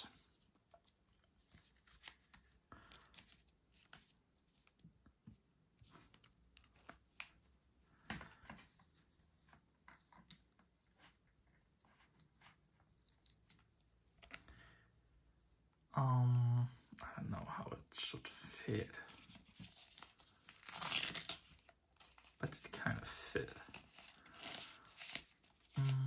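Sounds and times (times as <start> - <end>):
rustling of doll clothes: 0.0 - 16.0, 16.6 - 26.0.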